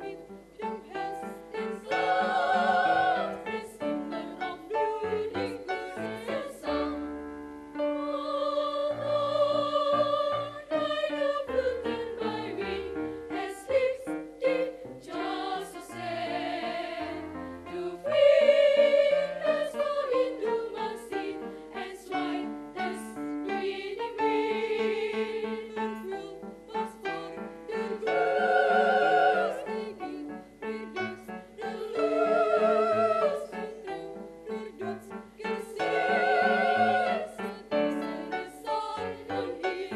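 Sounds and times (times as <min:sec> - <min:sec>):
girls' choir singing in harmony: 0:00.0 - 0:39.9.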